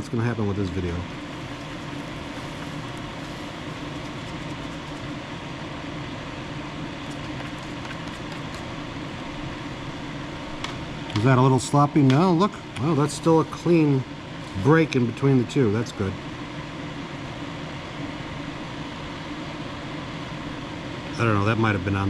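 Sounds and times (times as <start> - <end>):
fan running: 0.0 - 22.0.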